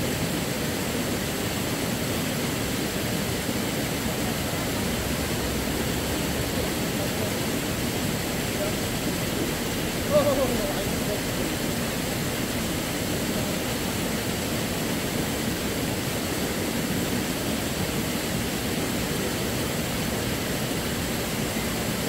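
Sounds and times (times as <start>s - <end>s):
river water rushing over rocks: 0.0s - 22.0s.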